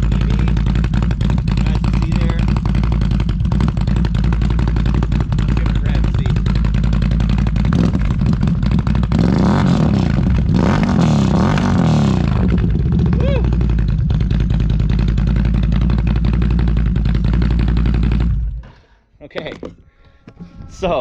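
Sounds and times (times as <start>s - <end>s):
atv engine idling and revving: 0.0s - 18.8s.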